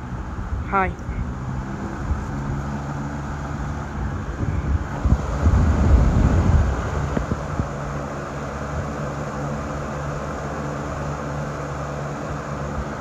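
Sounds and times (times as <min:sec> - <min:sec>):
box fan running: 0:00.0 - 0:13.0
wind buffeting on microphone: 0:00.0 - 0:13.0.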